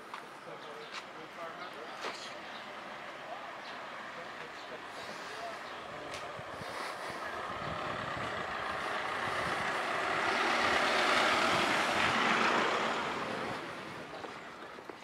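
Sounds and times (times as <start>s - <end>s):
van driving past: 1.4s - 15.0s.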